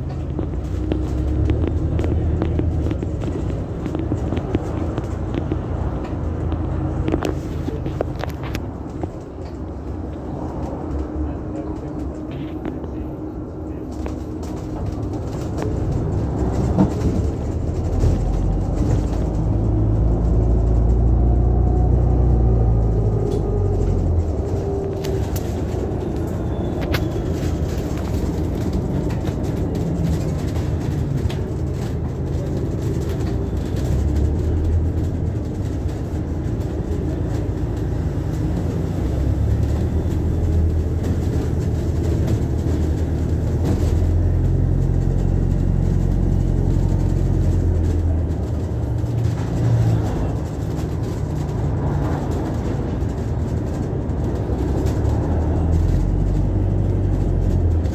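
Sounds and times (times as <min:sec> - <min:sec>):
bus engine and road rumble: 0:00.0 - 0:57.9.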